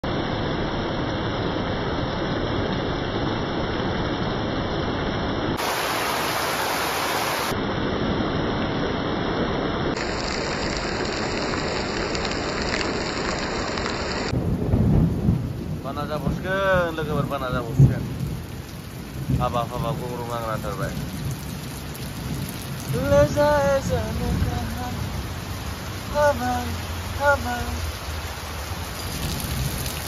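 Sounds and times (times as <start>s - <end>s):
heavy rain on metal roofs: 0.0s - 30.0s
water streaming off roof: 0.4s - 30.0s.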